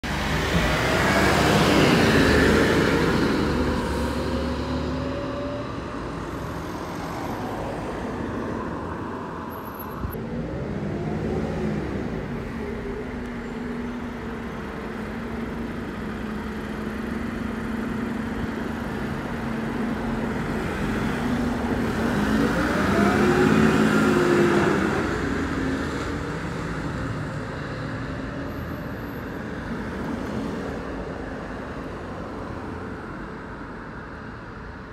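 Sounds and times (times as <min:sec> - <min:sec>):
road traffic passing: 0:00.0 - 0:34.9.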